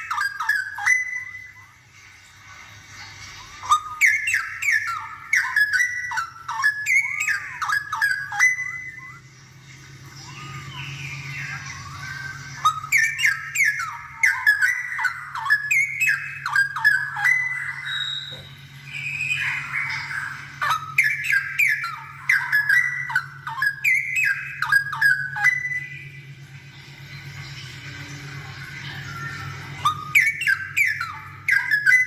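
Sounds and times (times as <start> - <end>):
bulbul singing warbled phrases: 0.0 - 1.8, 3.5 - 9.4, 10.1 - 26.3, 28.4 - 32.0.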